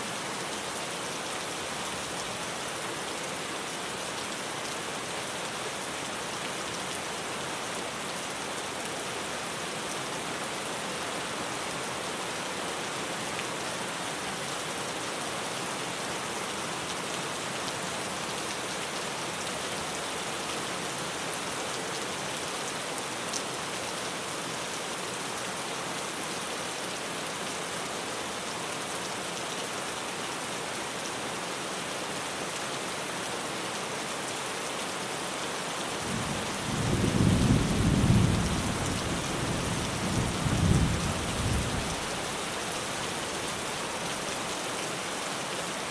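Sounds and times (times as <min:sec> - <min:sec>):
rain on a tin roof: 0:00.0 - 0:45.9.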